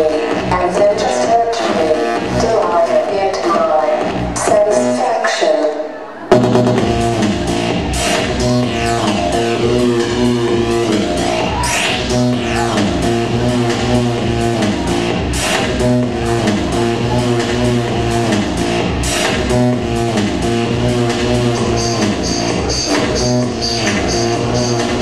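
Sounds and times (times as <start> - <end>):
loud dance music: 0.0 - 25.0.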